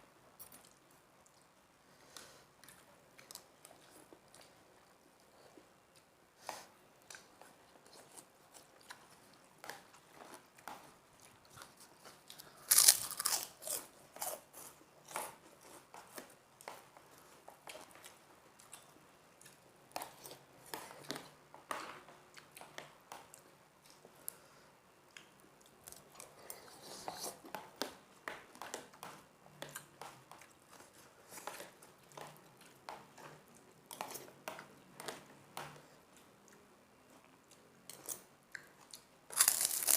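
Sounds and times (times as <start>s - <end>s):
crunchy chewing of crackers: 0.4s - 24.4s, 25.1s - 39.9s.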